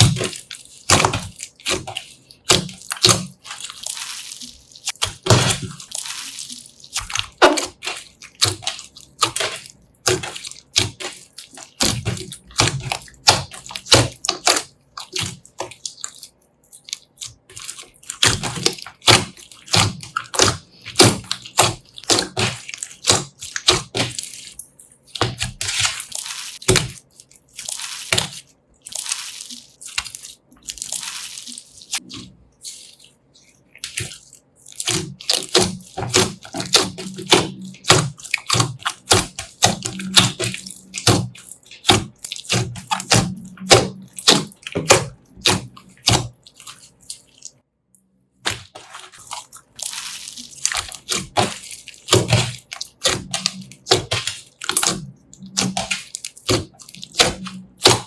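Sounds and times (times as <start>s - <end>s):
slime squished by hand: 0.0s - 47.6s, 48.3s - 58.0s.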